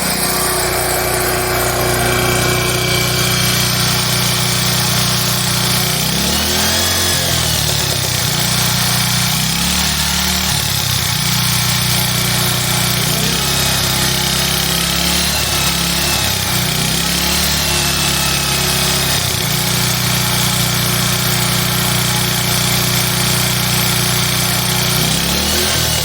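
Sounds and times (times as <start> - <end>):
gas generator engine running: 0.0 - 26.0.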